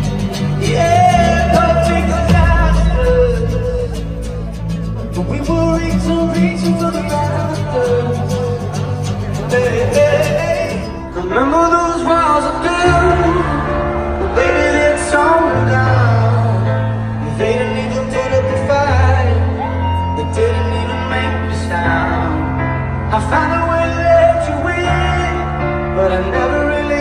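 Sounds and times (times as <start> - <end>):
bass notes: 0.0 - 27.0
live pop band: 0.0 - 27.0
person singing: 0.1 - 27.0.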